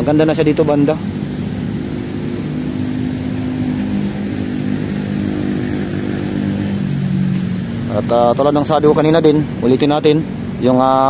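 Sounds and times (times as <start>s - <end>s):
low engine drone: 0.0s - 11.0s
outdoor background noise: 0.0s - 11.0s.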